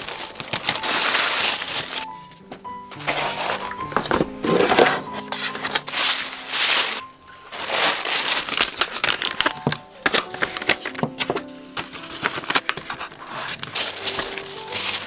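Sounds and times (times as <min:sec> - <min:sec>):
tissue paper rustling: 0:00.0 - 0:15.0.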